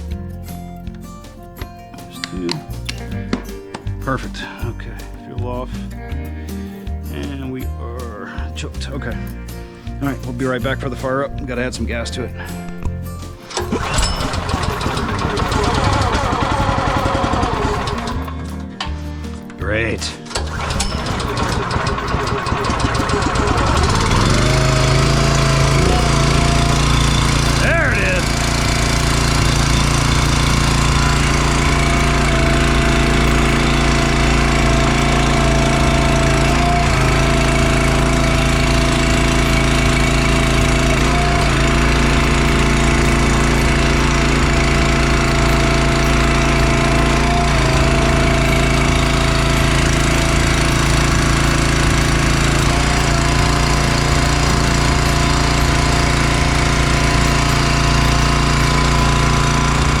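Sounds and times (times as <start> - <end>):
small gas engine running: 11.6 - 60.0.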